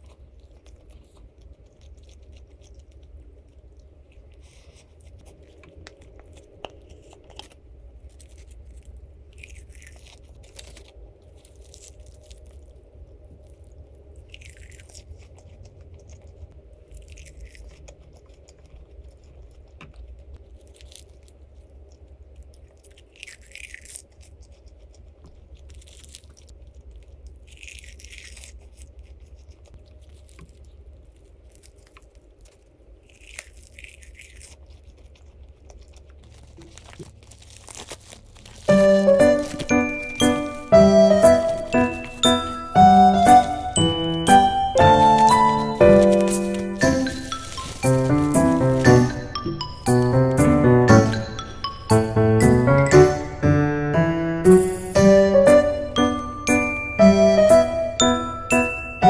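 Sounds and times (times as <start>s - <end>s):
person crunching food: 0.0s - 52.6s.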